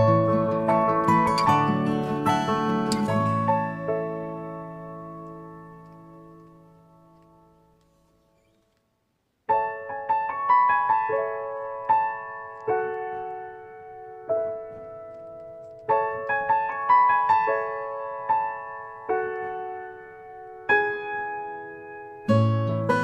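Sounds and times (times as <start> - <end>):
piano melody: 0.0 - 8.5, 9.5 - 23.0.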